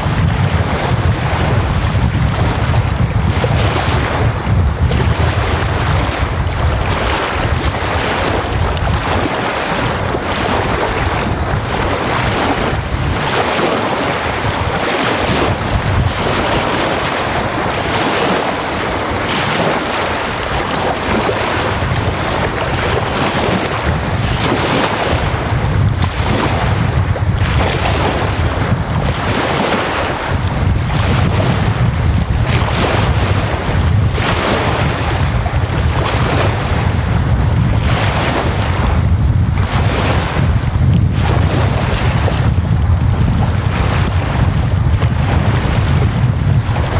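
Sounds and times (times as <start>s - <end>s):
waves washing on shore: 0.0s - 46.9s
wind rumble on microphone: 0.0s - 46.9s.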